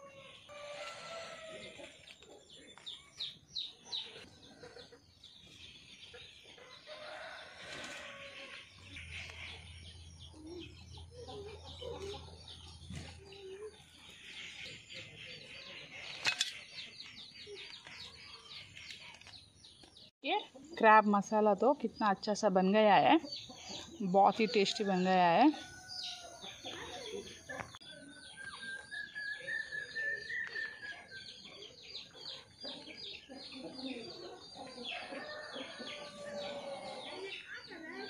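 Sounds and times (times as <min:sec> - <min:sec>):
chickens clucking: 0:00.0 - 0:20.8, 0:23.1 - 0:38.0
small birds chirping: 0:00.0 - 0:38.0.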